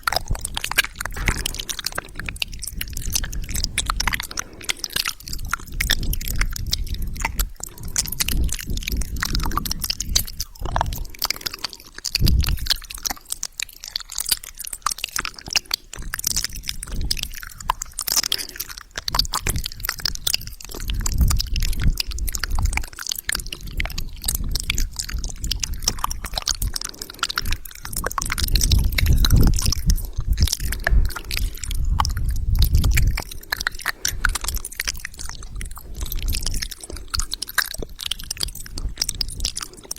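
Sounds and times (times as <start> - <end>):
low rumble against microphone: 0.0 - 13.2, 15.9 - 39.9
wet mouth clicks and smacks: 0.0 - 39.9.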